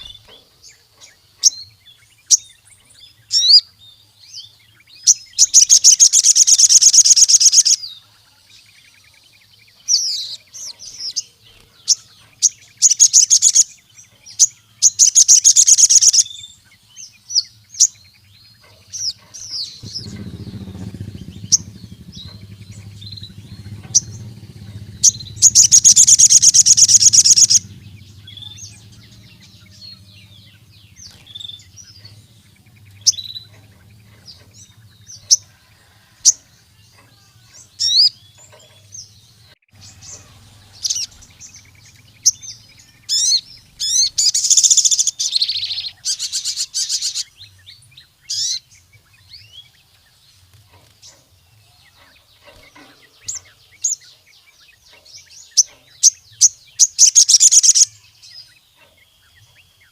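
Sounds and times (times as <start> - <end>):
bird rapid trills: 0.0 - 3.8, 4.9 - 47.4, 48.0 - 59.9.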